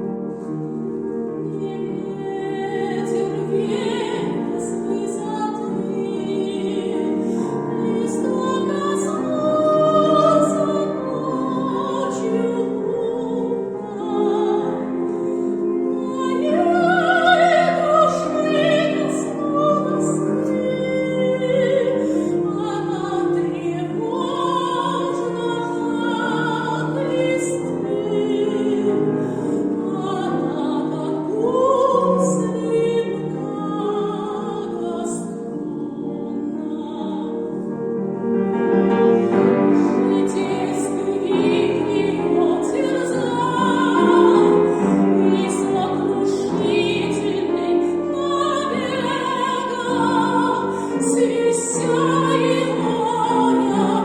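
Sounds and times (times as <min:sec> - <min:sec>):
piano accompaniment: 0:00.0 - 0:54.0
operatic singing: 0:01.2 - 0:37.8, 0:38.9 - 0:54.0.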